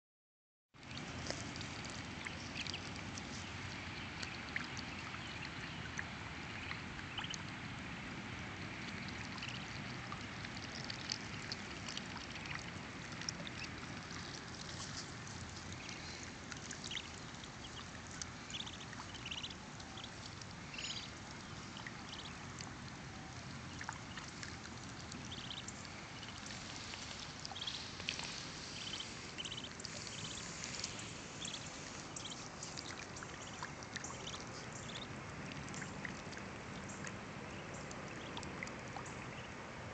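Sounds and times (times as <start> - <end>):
ducklings peeping: 0.8 - 7.6, 8.7 - 39.6
water lapping at shore: 0.8 - 39.8.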